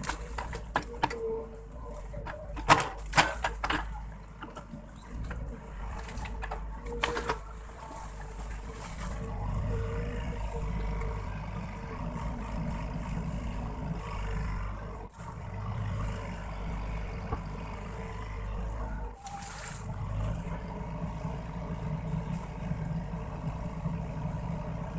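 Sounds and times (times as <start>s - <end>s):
excavator diesel engine under load: 0.0s - 24.9s.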